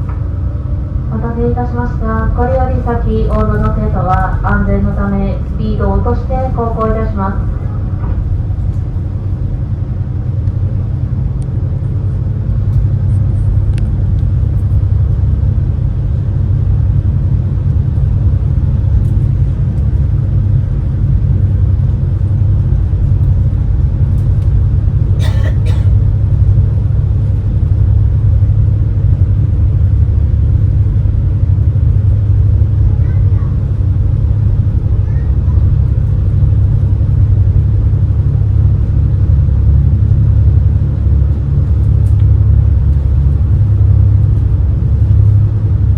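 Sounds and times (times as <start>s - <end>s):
boat engines rumbling: 0.0s - 45.9s.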